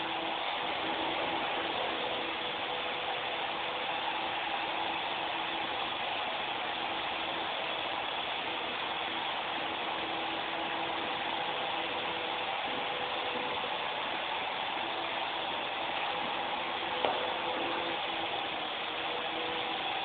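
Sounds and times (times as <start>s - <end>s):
rc helicopter motor buzzing: 0.0s - 20.0s.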